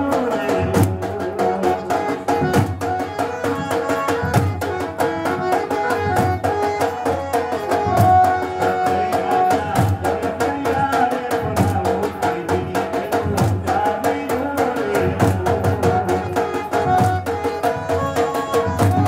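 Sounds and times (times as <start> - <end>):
fast steady drumming: 0.0 - 19.0.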